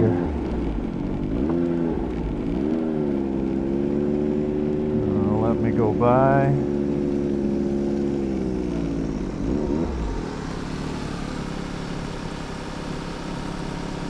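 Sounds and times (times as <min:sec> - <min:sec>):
snow groomer running: 0:00.0 - 0:14.0
snowmobile engine running: 0:00.0 - 0:14.0.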